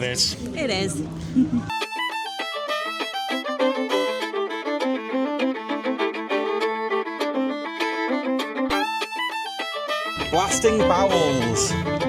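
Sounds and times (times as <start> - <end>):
lively fiddle tune: 1.7 - 12.0.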